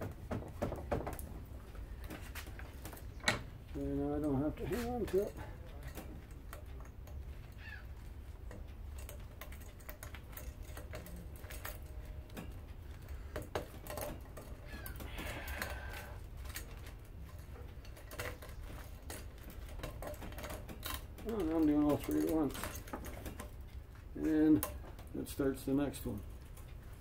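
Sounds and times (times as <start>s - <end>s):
wire clicking as it is unwound: 2.0s - 25.2s.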